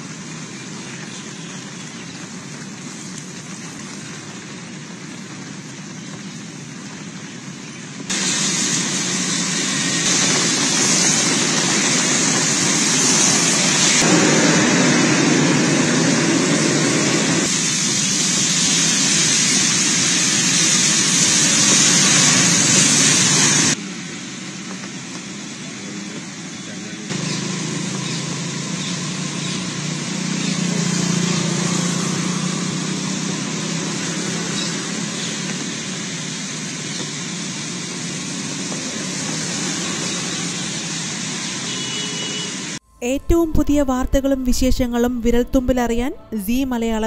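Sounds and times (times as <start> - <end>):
rain: 0.0 - 42.8
traffic on wet road: 0.0 - 42.8.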